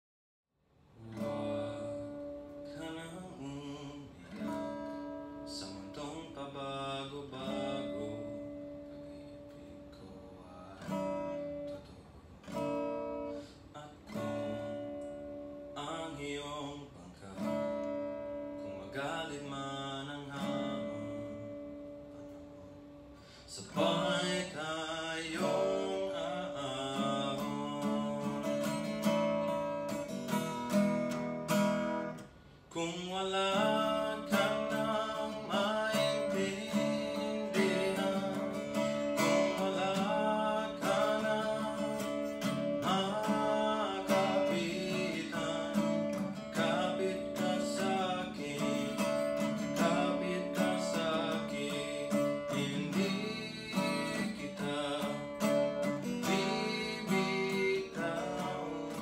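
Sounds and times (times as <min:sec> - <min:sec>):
young man singing: 0:01.0 - 0:22.1, 0:23.2 - 0:31.0, 0:31.6 - 0:59.0
acoustic guitar strummed: 0:01.0 - 0:59.0.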